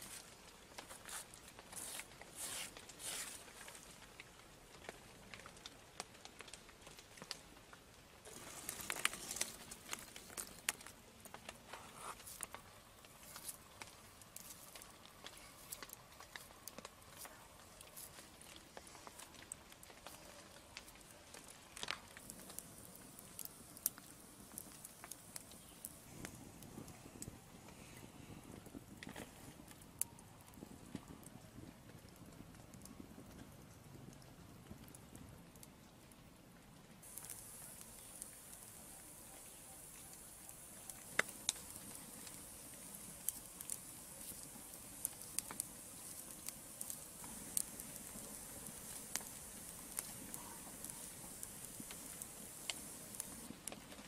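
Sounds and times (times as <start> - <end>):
sharp fire pops: 0.0 - 35.7, 37.0 - 54.0
faint steady hiss: 0.0 - 54.0
wood embers crackling: 0.0 - 54.0.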